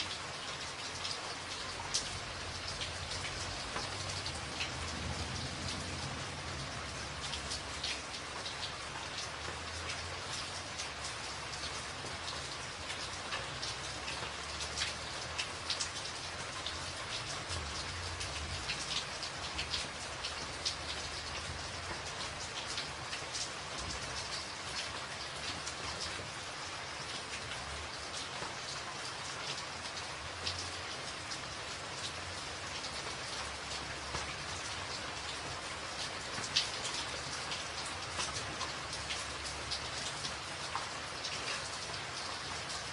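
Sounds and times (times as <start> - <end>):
rain on a tin roof: 0.0 - 42.9.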